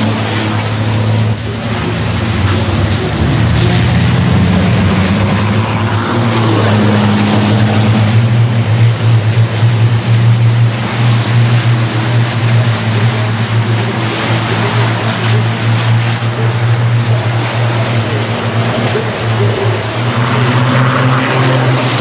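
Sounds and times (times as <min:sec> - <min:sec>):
truck diesel engines racing: 0:00.0 - 0:22.0.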